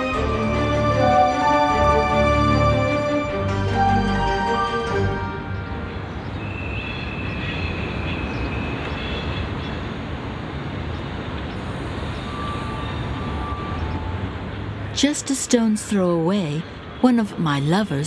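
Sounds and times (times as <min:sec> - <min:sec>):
train rumbling: 0:00.0 - 0:16.6.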